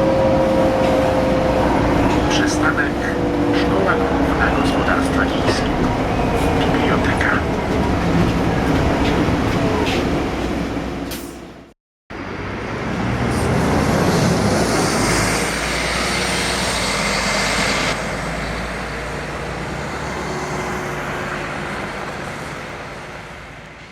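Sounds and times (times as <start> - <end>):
bus engine running: 0.0 - 23.9.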